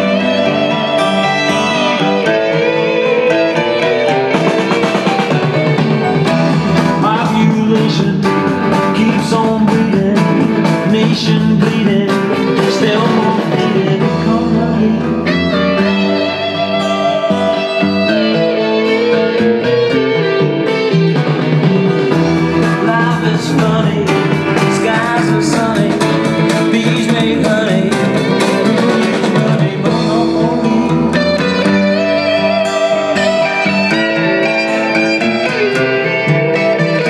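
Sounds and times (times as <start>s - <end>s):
guitar-led music through speakers: 0.0s - 37.0s.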